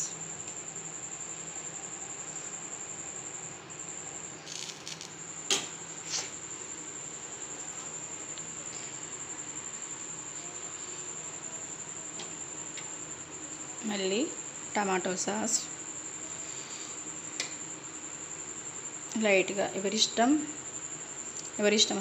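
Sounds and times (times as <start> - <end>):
cricket trill: 0.0 - 22.0.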